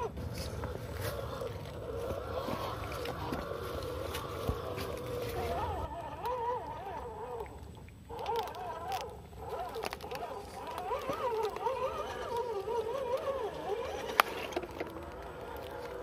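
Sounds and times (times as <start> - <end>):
electric motor and gear whine: 0.0 - 16.0.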